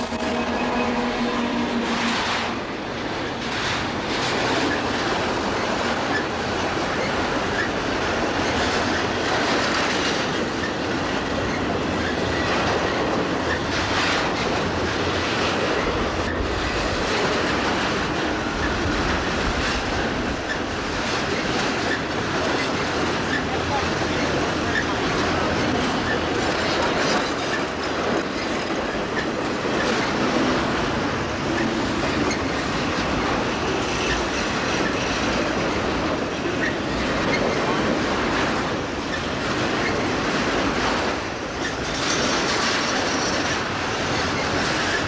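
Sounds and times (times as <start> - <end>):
locomotive steady tone: 0.0 - 45.0
train wheels clacking over rail joints: 0.0 - 45.0.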